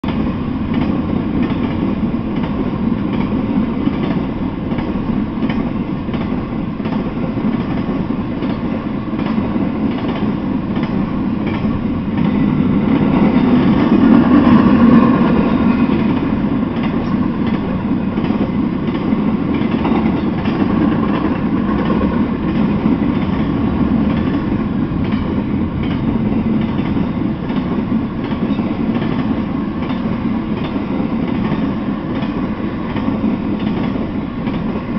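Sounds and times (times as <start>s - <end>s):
freight train rumbling past: 0.0s - 34.9s
wheels clacking over rail joints: 0.1s - 34.9s.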